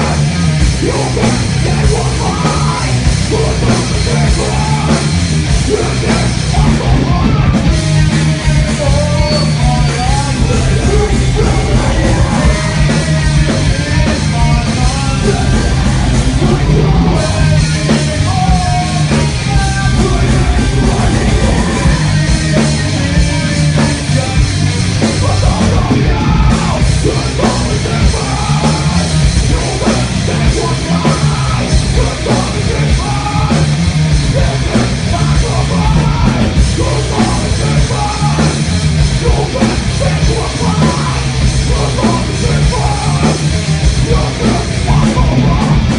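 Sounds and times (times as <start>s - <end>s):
bass guitar: 0.0s - 45.9s
distorted electric guitars: 0.0s - 45.9s
drums: 0.0s - 45.9s.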